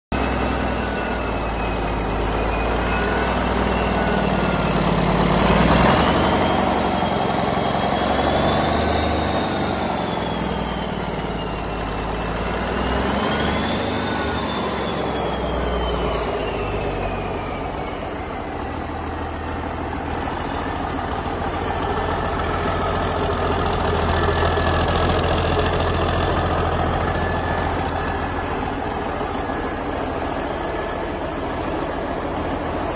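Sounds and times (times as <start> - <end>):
diesel engine revving: 0.1 - 32.9
high turbo whine: 0.1 - 32.9.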